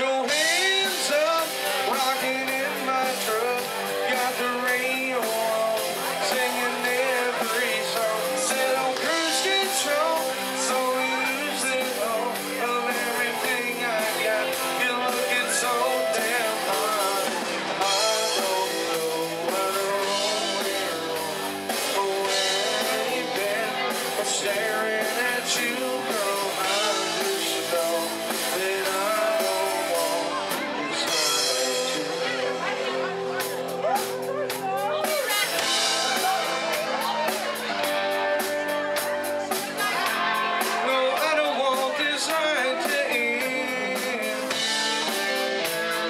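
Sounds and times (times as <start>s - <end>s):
bass guitar: 0.0s - 46.0s
drum kit: 0.0s - 46.0s
electric guitars: 0.0s - 46.0s
man singing into a microphone: 0.0s - 46.0s.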